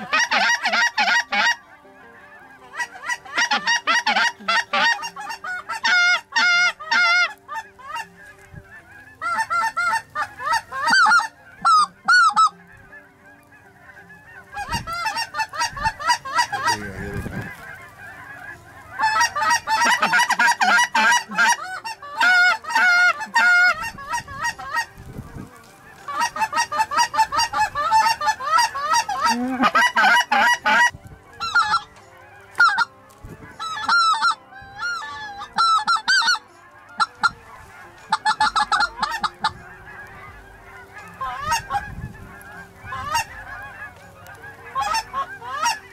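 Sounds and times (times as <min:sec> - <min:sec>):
geese honking: 0:00.0 - 0:45.9.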